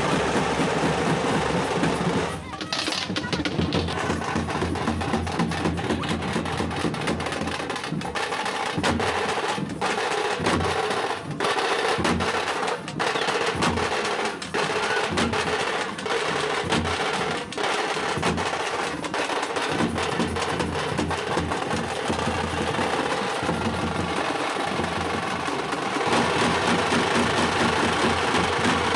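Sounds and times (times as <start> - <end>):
frame drums beaten with sticks: 0.0 - 28.9.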